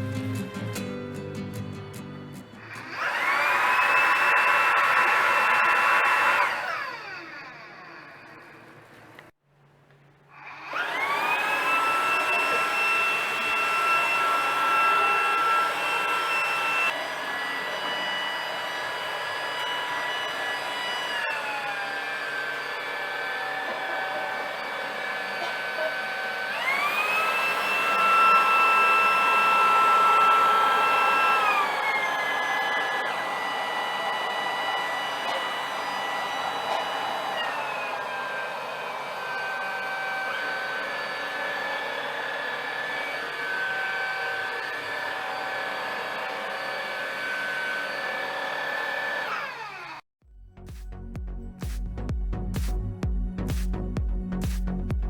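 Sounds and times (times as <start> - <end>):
stick vacuum motor whine: 2.0 - 9.3, 10.4 - 50.0.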